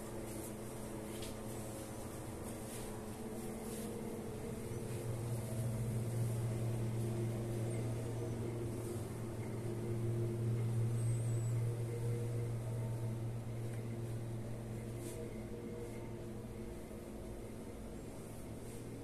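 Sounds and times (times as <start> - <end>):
low mechanical hum: 0.0 - 19.0
faint steady tones: 0.3 - 19.0.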